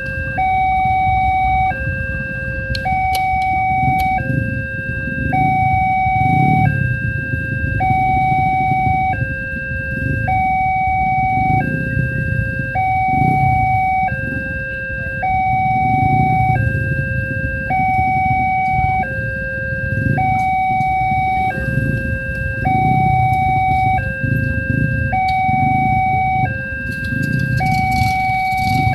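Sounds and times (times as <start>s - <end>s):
two-tone crossing alarm: 0.0s - 28.9s
low rumble: 2.7s - 28.9s.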